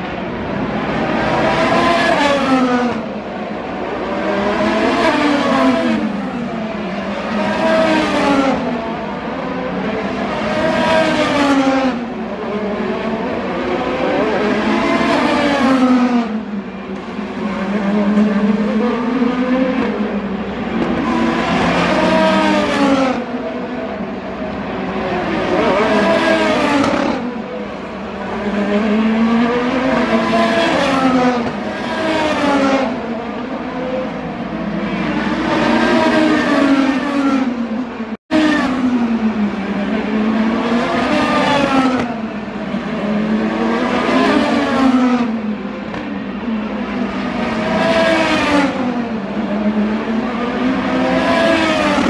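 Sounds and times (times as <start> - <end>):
race cars passing: 0.0 - 52.0.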